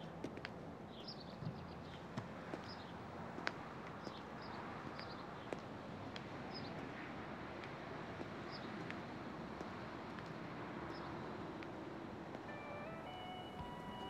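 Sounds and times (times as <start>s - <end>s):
distant traffic hiss: 0.0s - 14.0s.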